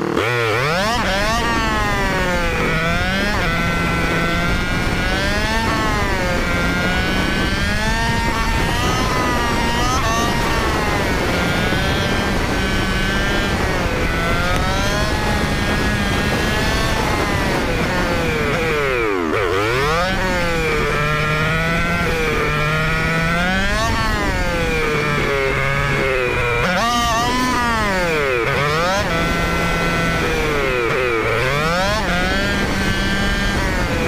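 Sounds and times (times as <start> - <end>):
motorcycle engine revving: 0.0 - 34.0
wind noise on microphone: 0.7 - 34.0.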